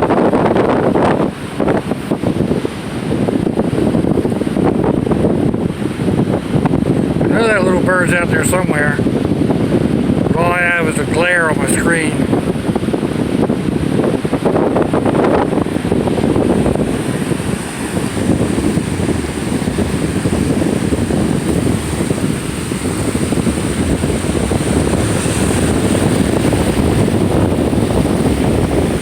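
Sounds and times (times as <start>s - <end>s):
wind buffeting the microphone: 0.0s - 29.0s
ocean surf: 0.1s - 29.0s.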